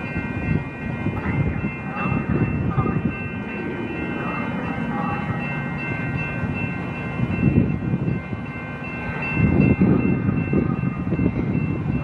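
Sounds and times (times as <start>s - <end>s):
diesel locomotive engine rumble: 0.0s - 12.0s
high-pitched ringing tones: 0.0s - 12.0s.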